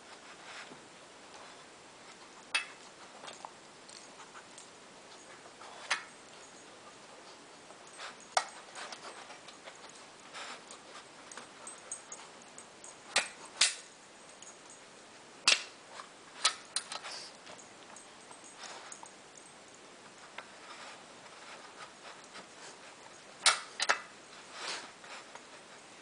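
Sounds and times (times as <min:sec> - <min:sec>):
soft rustling: 0:00.0 - 0:26.0.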